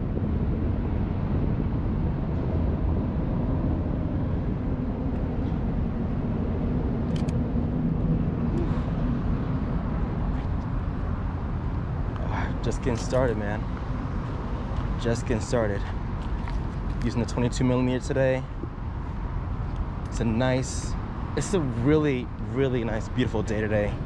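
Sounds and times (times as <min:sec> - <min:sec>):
distant traffic rumble: 0:00.0 - 0:24.0.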